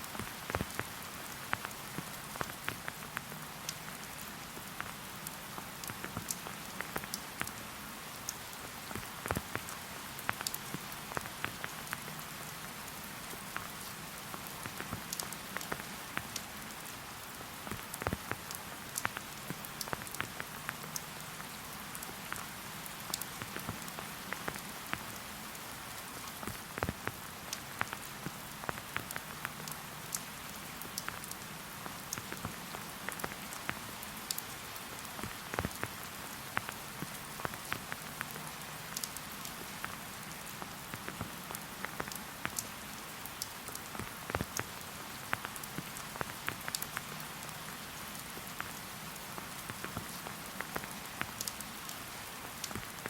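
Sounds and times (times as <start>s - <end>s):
rain hissing: 0.0s - 53.0s
raindrops striking close by: 0.0s - 53.0s.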